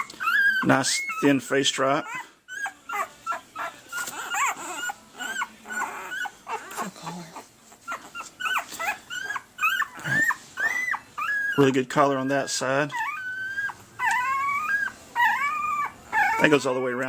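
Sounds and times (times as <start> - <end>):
puppies whimpering and squeaking: 0.0 - 17.0.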